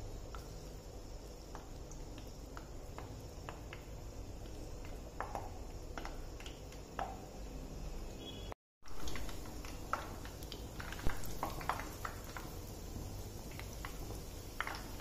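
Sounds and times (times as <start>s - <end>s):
oil popping and crackling: 0.0s - 7.3s, 8.8s - 15.0s
bread frying in hot oil: 0.0s - 15.0s.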